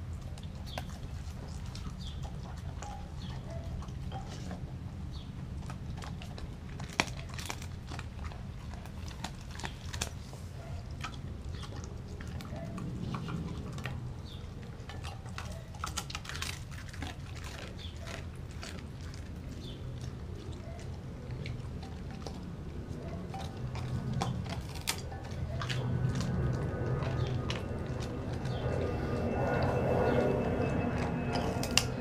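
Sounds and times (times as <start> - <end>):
dog chewing and crunching food: 0.0 - 32.0
steady low rumble: 0.0 - 32.0.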